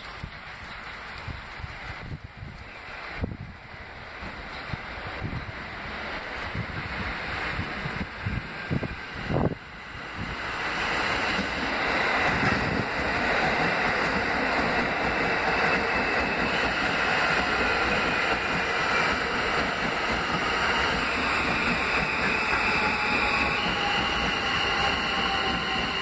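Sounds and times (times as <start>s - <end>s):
subway train rumbling past: 1.8s - 26.0s.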